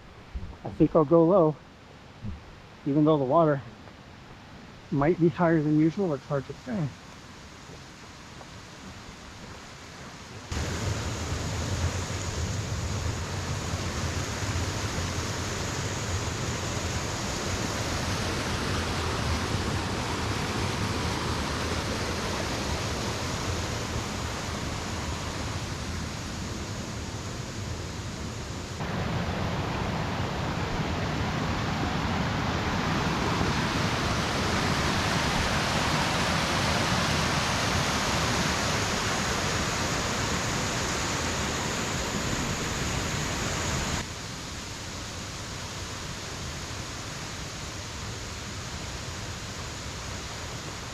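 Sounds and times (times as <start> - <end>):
rushing stream water: 0.0 - 50.9.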